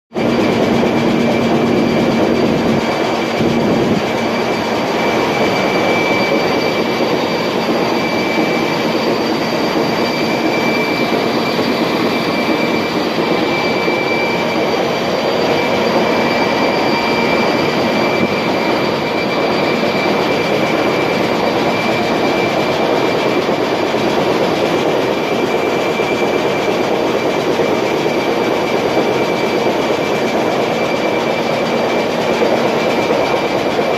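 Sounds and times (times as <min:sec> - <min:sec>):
engine room machinery noise: 0:00.1 - 0:33.9.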